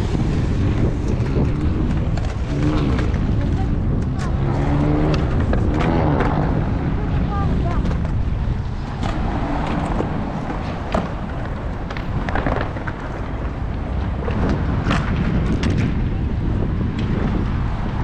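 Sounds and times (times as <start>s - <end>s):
distant traffic rumble: 0.0s - 18.0s
wind buffeting microphone: 0.0s - 18.0s.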